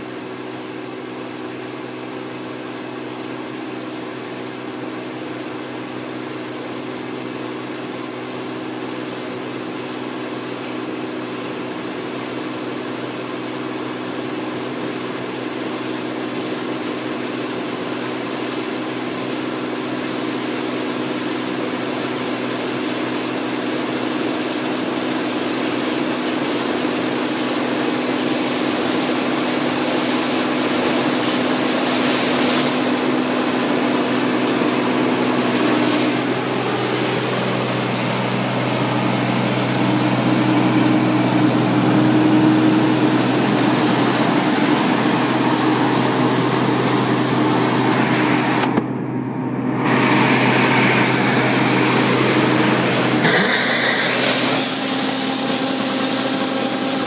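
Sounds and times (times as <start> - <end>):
combine harvester engine droning: 0.0 - 57.0.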